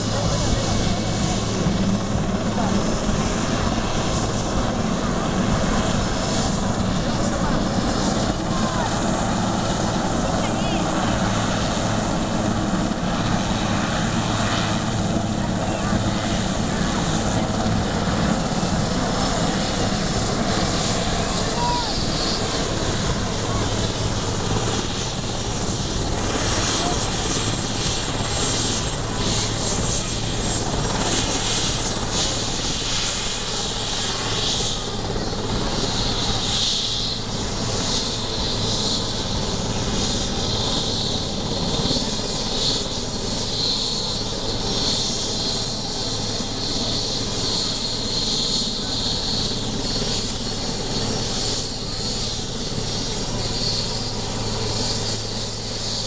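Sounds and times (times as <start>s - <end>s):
helicopter engines and rotor: 0.0s - 56.0s
high turbine whine: 0.0s - 56.0s.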